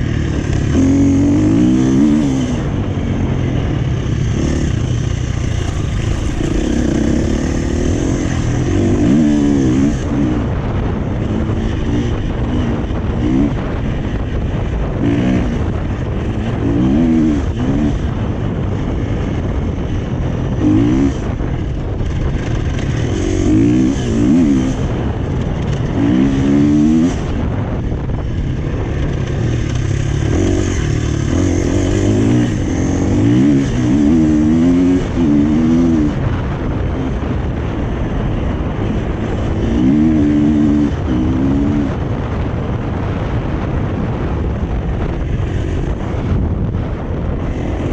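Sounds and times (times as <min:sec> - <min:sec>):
motorbike engine revving: 0:00.0 - 0:47.9
wind over microphone: 0:00.0 - 0:47.9.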